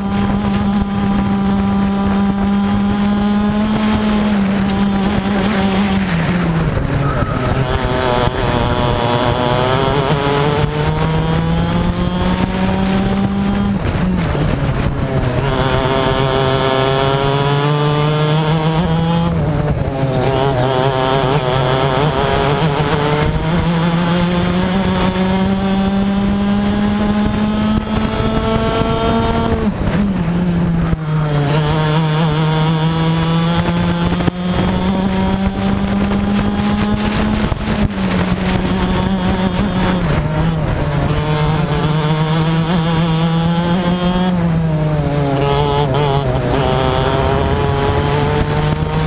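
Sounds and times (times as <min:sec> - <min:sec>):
kart engine at full throttle: 0:00.0 - 0:49.0.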